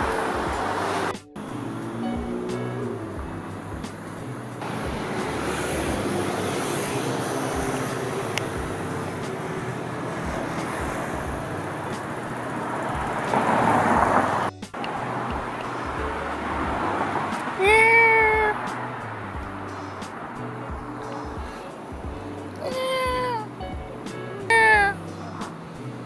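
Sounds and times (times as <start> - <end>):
background music: 0.0 - 26.0
passing traffic: 0.0 - 26.0.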